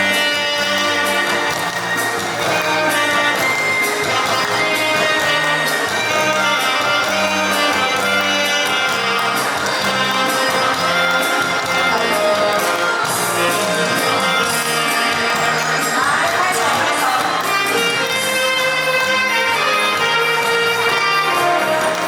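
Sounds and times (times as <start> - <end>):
musical accompaniment with bass: 0.0 - 22.0
saxophone duet: 0.0 - 22.0.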